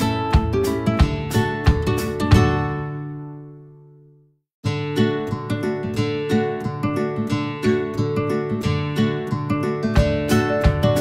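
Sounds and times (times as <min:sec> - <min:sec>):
acoustic guitar picking: 0:00.0 - 0:03.7, 0:04.6 - 0:11.0.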